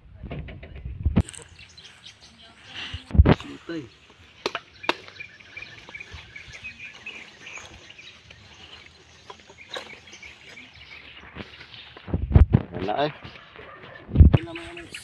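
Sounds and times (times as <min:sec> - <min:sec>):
birds chirping: 0:01.2 - 0:15.0.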